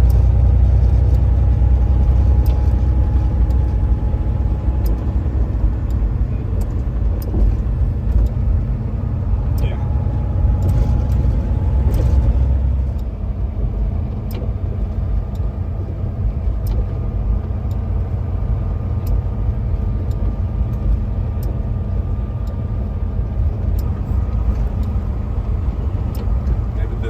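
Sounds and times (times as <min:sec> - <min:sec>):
road noise: 0:00.0 - 0:27.0
truck engine rumbling: 0:00.0 - 0:27.0.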